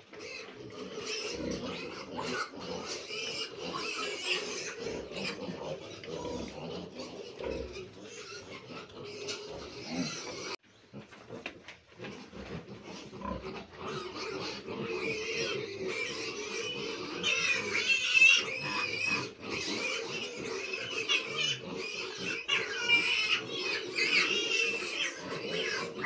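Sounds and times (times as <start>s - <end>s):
piglets squealing: 0.2s - 10.6s, 12.8s - 26.0s
pig grunting: 0.3s - 11.1s, 12.1s - 26.0s.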